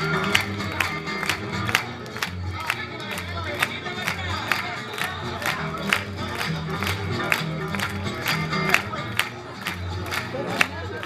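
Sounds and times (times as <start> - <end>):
faint crowd noise: 0.0 - 11.0
festive folk music with guitar: 0.0 - 11.0.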